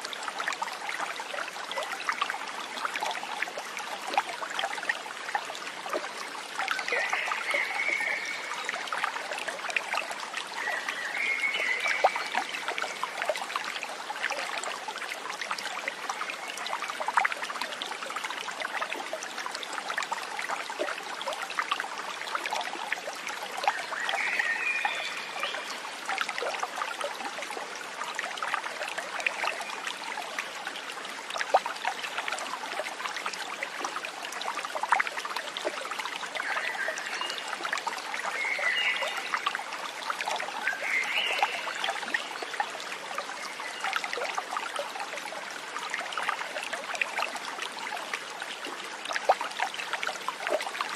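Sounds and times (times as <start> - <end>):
stream trickling and splashing: 0.0 - 50.9.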